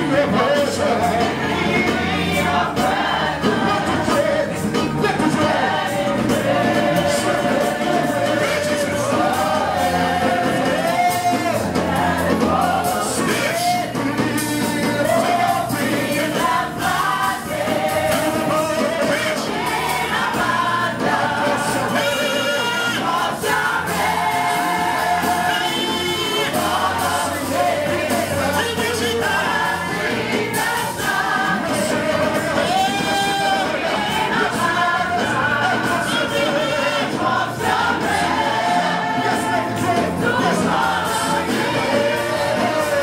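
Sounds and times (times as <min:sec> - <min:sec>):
steady bass line: 0:00.0 - 0:43.0
voices singing over a band: 0:00.0 - 0:43.0.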